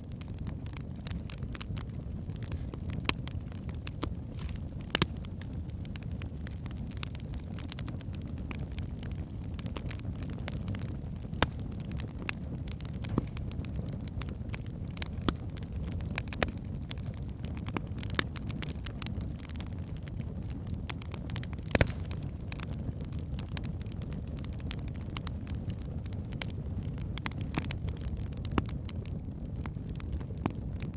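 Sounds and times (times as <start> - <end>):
burning logs crackling and popping: 0.0 - 30.9
low rumble of fire: 0.0 - 30.9.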